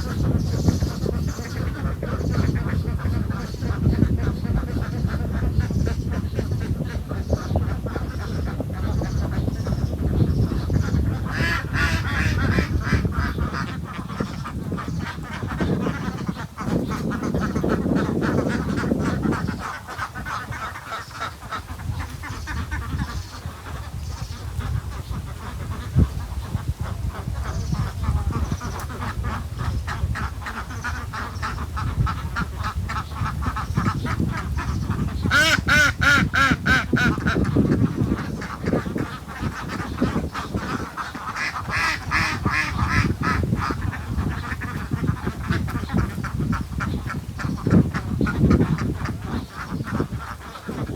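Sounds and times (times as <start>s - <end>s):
waterfowl calling: 0.0s - 50.9s.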